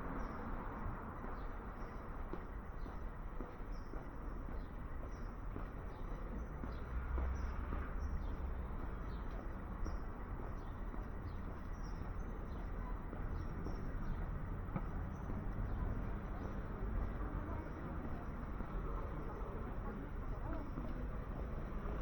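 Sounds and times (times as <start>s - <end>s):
traffic rumble: 0.0s - 22.0s
small birds chirping: 1.2s - 21.2s.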